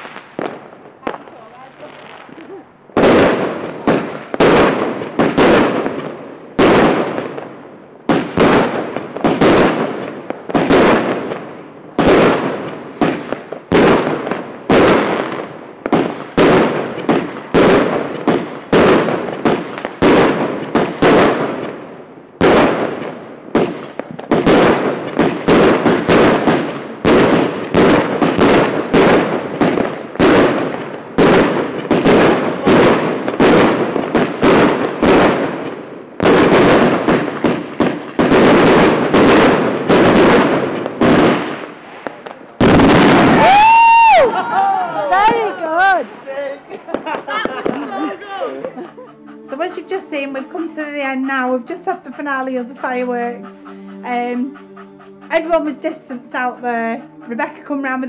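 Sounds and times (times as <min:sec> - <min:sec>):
fireworks banging: 0:00.0 - 0:58.0.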